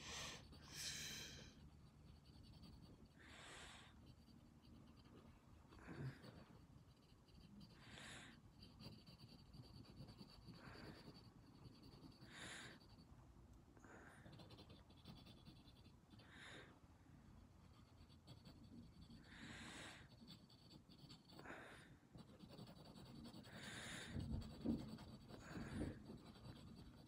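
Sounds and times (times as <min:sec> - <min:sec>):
pencil scratching on paper: 0:00.0 - 0:13.1, 0:14.2 - 0:16.3, 0:17.6 - 0:27.0.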